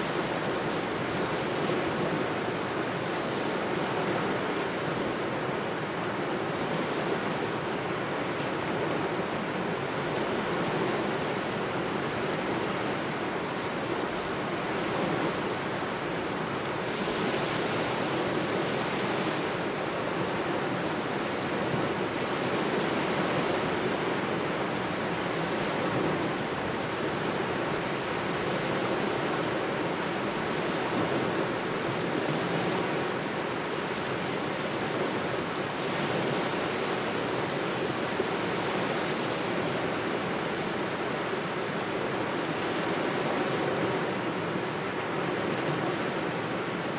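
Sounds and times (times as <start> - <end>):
small waves washing on shore: 0.0 - 46.9.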